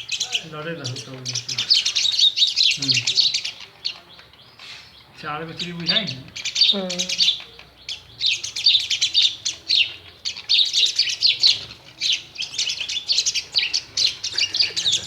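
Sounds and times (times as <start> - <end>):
myna chirping: 0.0 - 15.0.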